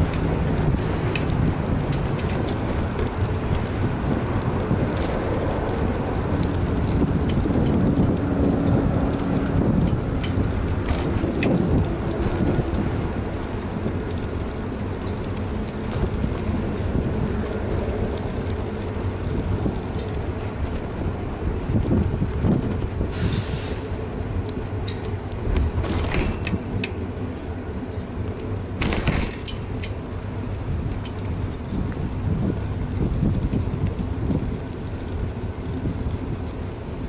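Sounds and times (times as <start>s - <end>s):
bike rattling clicks: 0.0s - 23.2s, 23.8s - 37.0s
road rumble: 0.0s - 37.0s
wind buffeting: 0.0s - 37.0s.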